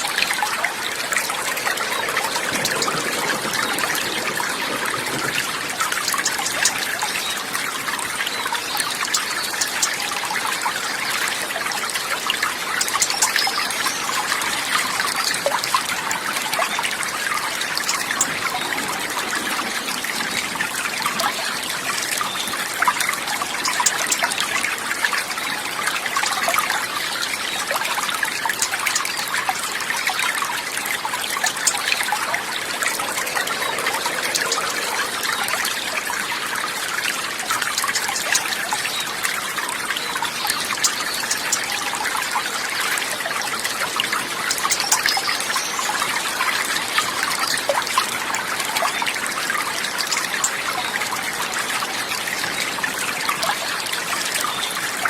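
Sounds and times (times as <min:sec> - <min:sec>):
water trickling and babbling: 0:00.0 - 0:55.0.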